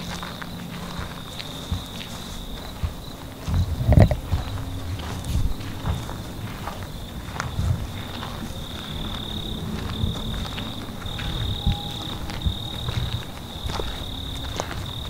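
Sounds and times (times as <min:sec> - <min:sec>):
crickets trilling: 0:00.0 - 0:15.0
footsteps on dirt and grass: 0:00.0 - 0:15.0.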